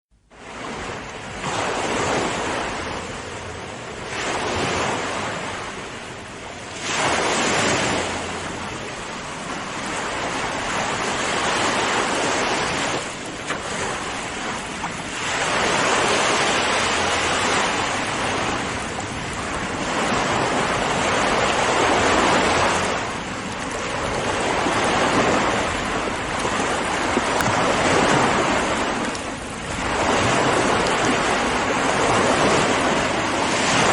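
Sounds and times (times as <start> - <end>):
ocean waves breaking on shore: 0.2 - 33.9.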